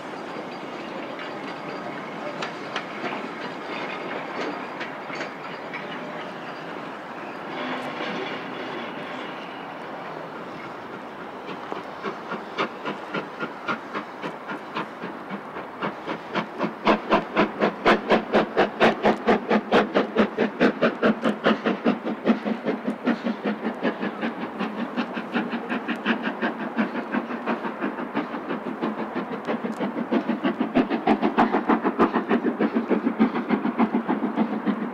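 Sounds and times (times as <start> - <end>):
steam locomotive chuffing: 0.0 - 34.9.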